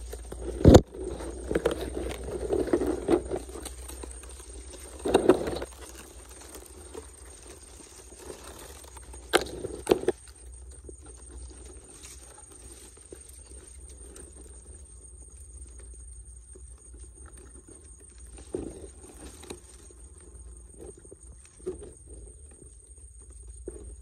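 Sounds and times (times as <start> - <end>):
dry grass and twigs rustling: 0.0 - 24.0.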